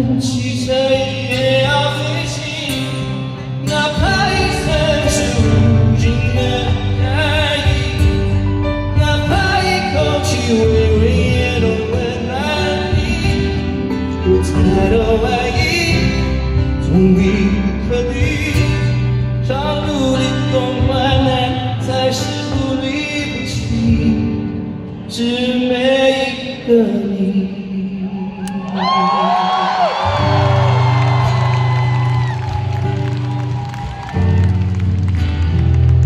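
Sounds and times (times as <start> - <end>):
strummed acoustic guitars: 0.0 - 26.9, 30.0 - 36.0
man singing: 0.0 - 31.4.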